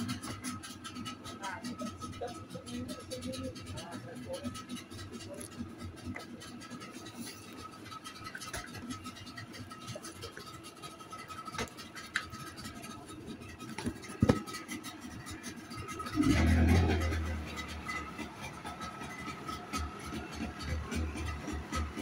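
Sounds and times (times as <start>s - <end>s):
outboard motor starting and running: 0.0s - 22.0s.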